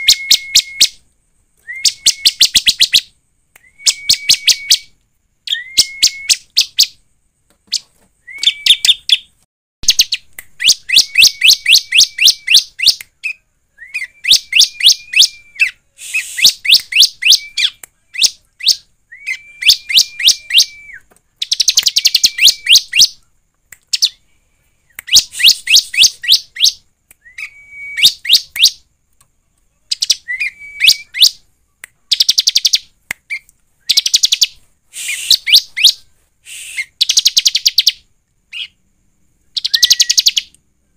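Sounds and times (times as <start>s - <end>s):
bird singing sharp repeated notes: 1.8s - 23.2s, 25.0s - 28.9s, 32.0s - 38.9s, 39.5s - 40.5s.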